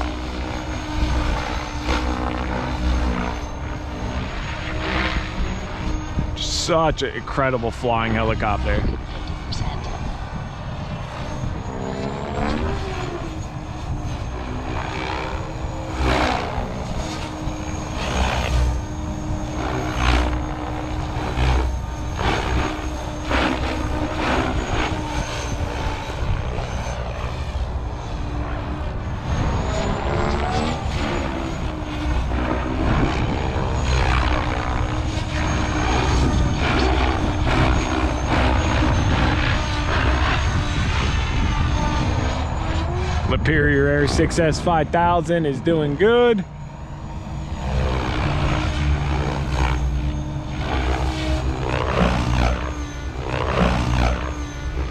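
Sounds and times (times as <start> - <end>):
model helicopter rotor drone: 0.0 - 54.9.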